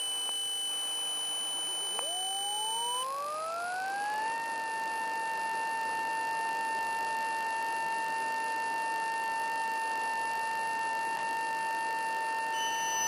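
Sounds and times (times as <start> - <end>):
steady high electrical whine: 0.0 - 13.0.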